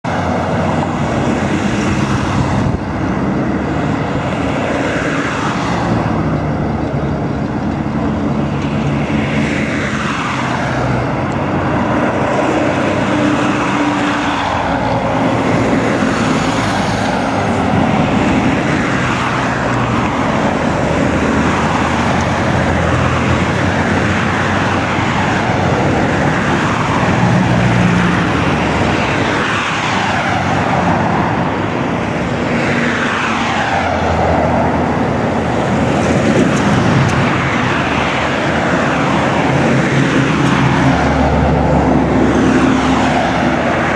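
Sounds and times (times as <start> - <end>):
vehicles driving past: 0.0 - 43.9.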